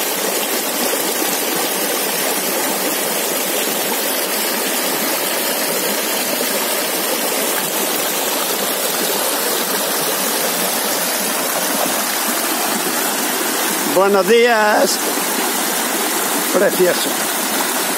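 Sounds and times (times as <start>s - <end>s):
water rushing over rocks: 0.0s - 17.9s.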